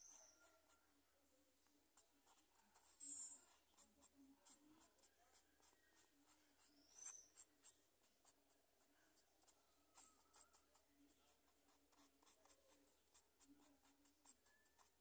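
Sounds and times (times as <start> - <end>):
marker scratching on paper: 0.0 - 0.9, 1.9 - 15.0.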